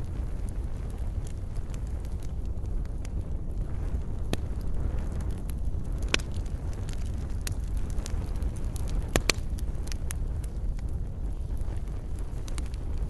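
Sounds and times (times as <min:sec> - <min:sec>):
campfire roar: 0:00.0 - 0:13.0
fire crackles and pops: 0:00.0 - 0:13.0.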